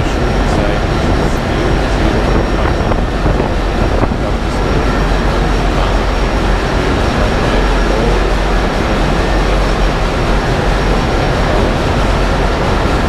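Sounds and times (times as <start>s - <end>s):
dense machinery rumble: 0.0s - 13.0s
low hum: 0.0s - 13.0s.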